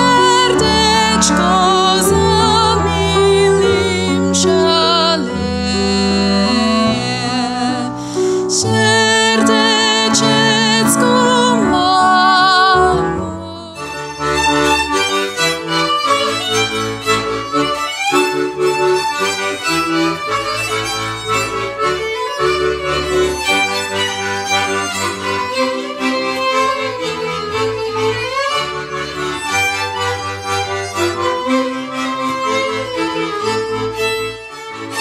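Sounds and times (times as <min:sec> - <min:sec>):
fast violin melody: 0:00.0 - 0:35.0.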